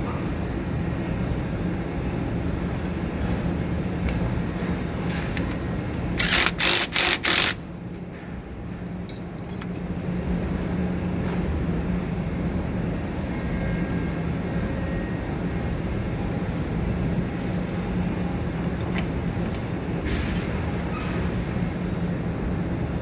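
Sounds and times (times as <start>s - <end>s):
low machine drone: 0.0s - 23.0s.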